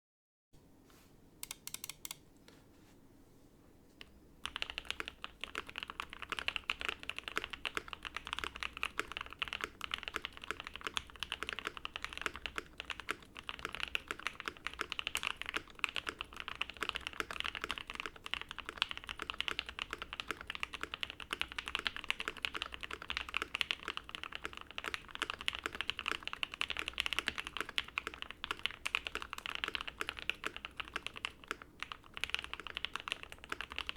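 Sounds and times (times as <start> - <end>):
mechanical keyboard typing: 1.4 - 2.2, 4.4 - 33.9.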